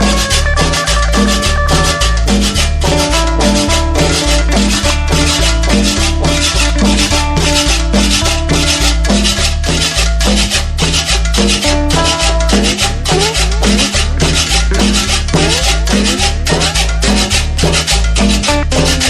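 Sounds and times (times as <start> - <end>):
heavy bass beat: 0.0 - 19.0
latin dance music: 0.0 - 19.0
shaker percussion: 0.0 - 19.0.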